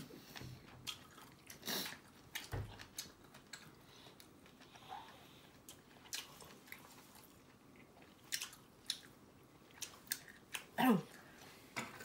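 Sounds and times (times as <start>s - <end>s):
chewing and biting fried shrimp: 0.6s - 10.7s.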